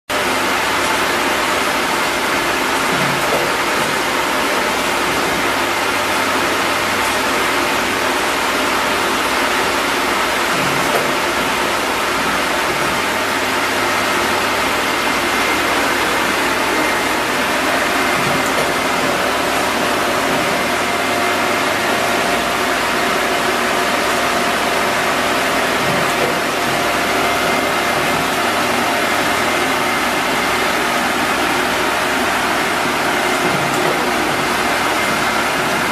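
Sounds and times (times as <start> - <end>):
wood lathe running: 0.2 - 35.9.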